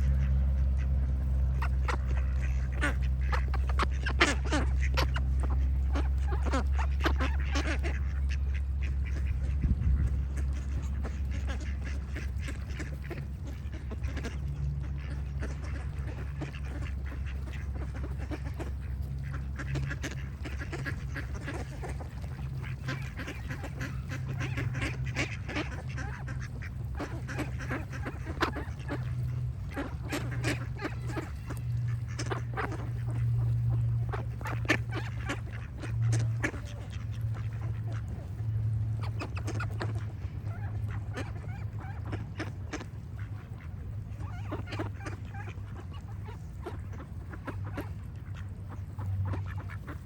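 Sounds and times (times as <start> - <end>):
ducks quacking: 0.0 - 50.0
steady low hum: 0.0 - 50.0.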